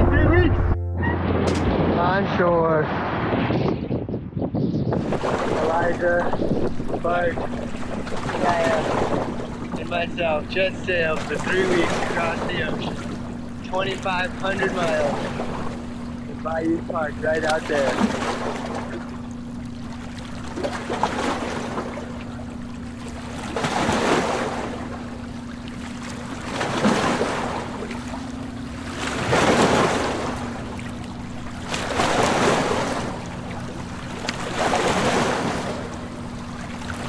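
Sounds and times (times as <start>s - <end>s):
small waves washing onto shore: 5.0s - 37.0s.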